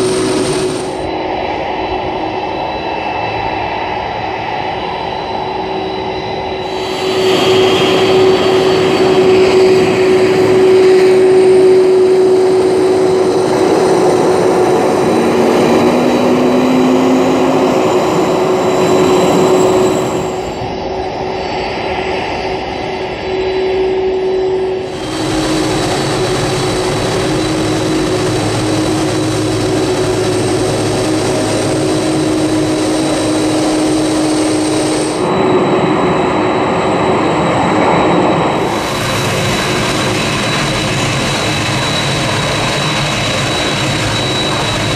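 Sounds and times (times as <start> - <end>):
jet engines rumbling and whining: 0.0 - 44.9.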